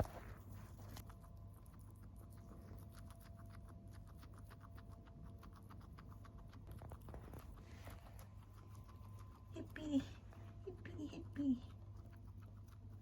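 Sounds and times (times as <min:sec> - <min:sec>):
guinea pig chewing: 0:00.0 - 0:13.0.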